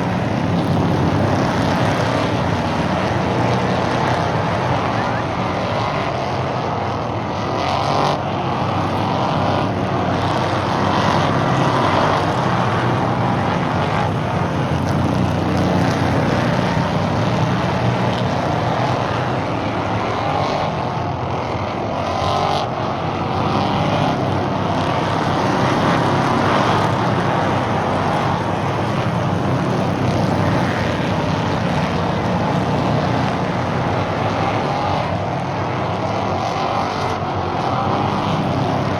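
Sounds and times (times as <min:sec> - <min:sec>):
race cars passing by: 0:00.0 - 0:38.9.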